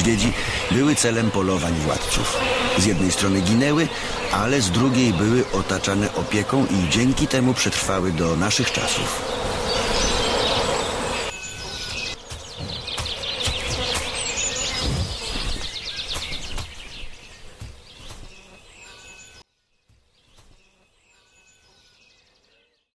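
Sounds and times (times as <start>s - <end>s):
flies buzzing: 0.0s - 21.7s
birds chirping and trilling: 0.0s - 22.9s.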